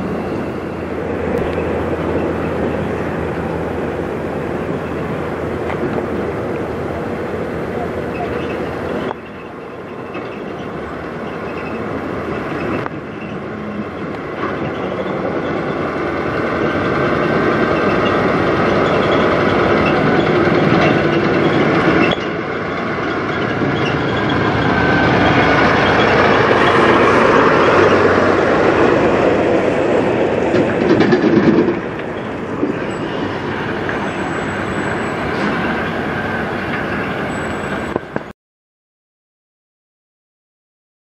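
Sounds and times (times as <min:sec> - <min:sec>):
truck diesel engine passing: 0:00.0 - 0:38.3.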